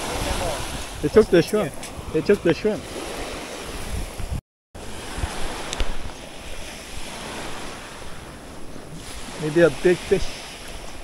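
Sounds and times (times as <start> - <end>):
small waves breaking on beach: 0.0 - 11.0
wind on microphone: 0.0 - 11.0.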